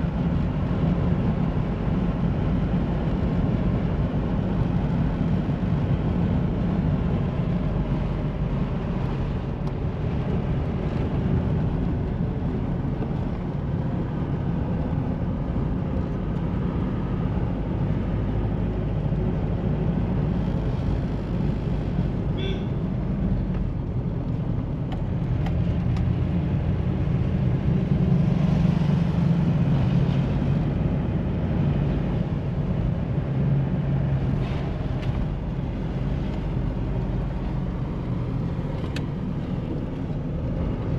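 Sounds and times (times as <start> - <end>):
vehicle engine and road noise drone: 0.0 - 40.9.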